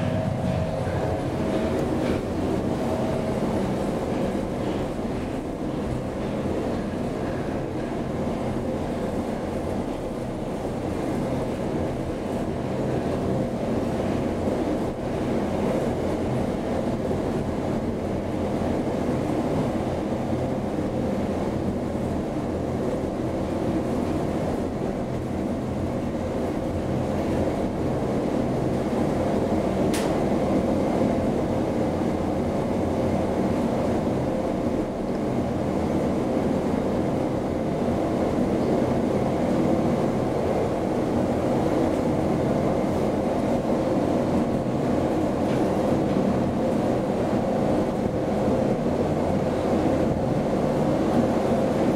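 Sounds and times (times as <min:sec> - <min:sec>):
elevator drive hum and rumble: 0:00.0 - 0:51.9.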